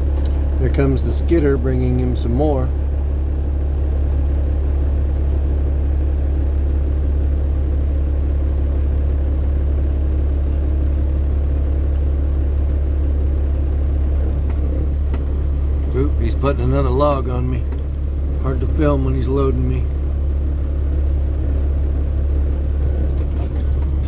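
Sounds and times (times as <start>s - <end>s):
heavy diesel engines running: 0.0s - 24.0s.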